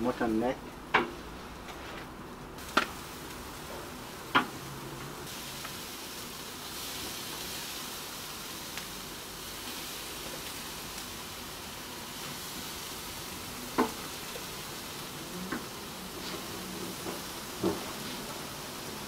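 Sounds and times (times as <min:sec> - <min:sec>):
meat sizzling on a grill: 0:02.6 - 0:19.0.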